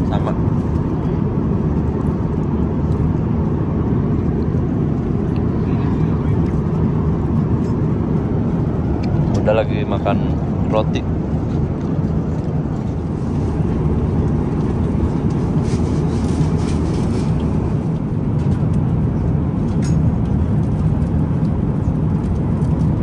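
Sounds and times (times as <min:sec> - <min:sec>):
airliner cabin noise: 0:00.0 - 0:23.0.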